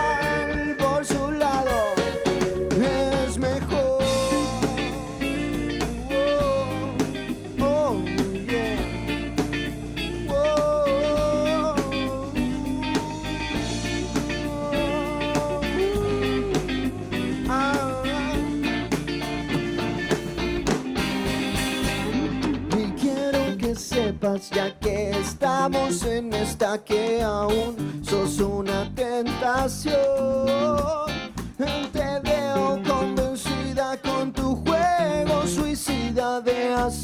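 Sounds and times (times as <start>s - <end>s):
lead guitar melody: 0.0s - 26.5s, 30.5s - 34.3s
bass: 0.0s - 37.0s
drums: 0.0s - 37.0s.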